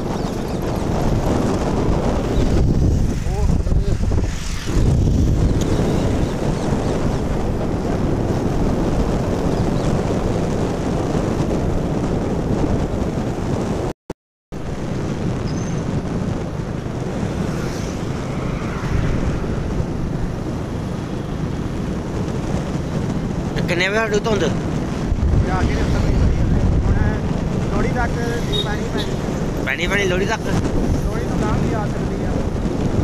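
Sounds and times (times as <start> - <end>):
motorcycle engine rumble: 0.0 - 13.9, 14.6 - 33.0
road noise: 0.0 - 13.9, 14.5 - 33.0
wind buffeting microphone: 0.0 - 13.9, 14.5 - 33.0.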